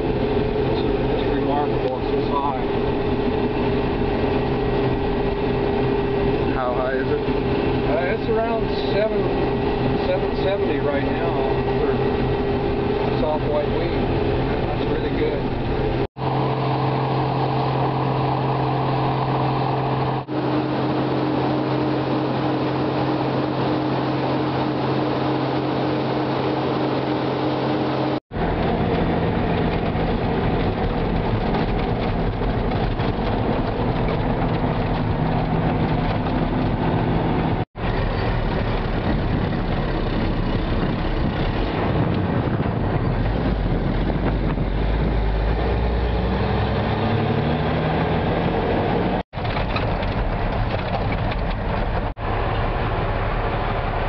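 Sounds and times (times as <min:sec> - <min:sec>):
farm machinery engines humming: 0:00.0 - 0:54.0.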